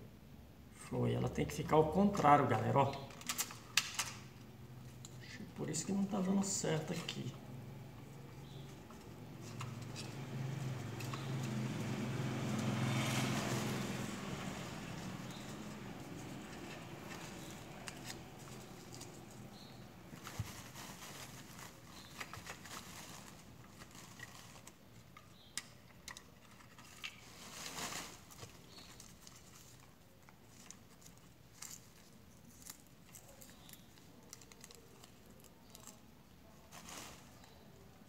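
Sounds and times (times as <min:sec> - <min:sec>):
paper labels rustling: 0:01.5 - 0:38.0.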